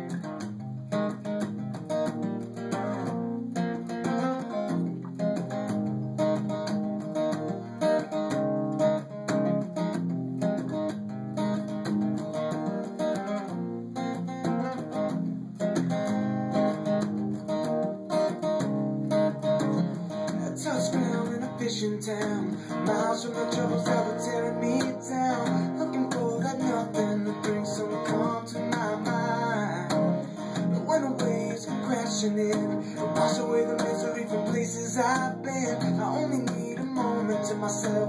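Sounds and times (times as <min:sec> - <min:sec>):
acoustic guitar picked and strummed: 0:00.0 - 0:38.0.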